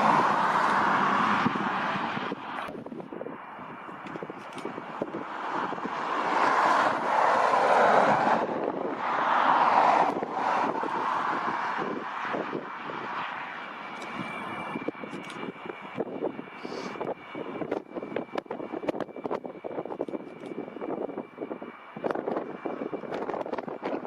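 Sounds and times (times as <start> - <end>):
jet engines rushing: 0.0 - 24.0
wind buffeting microphone: 0.0 - 24.0.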